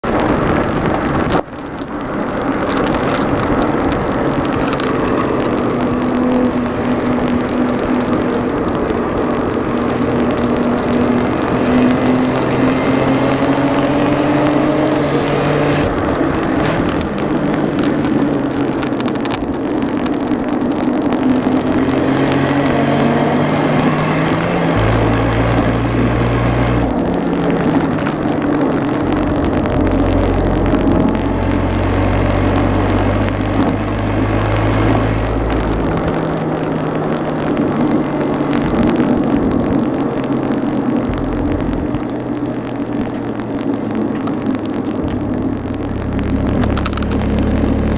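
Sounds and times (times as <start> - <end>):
car engine misfiring: 0.0 - 47.9.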